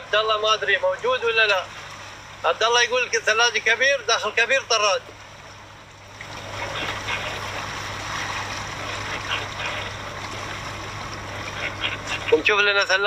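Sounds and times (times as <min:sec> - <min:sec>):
steady low hum: 0:00.0 - 0:13.0
water splashing and trickling: 0:00.0 - 0:13.0.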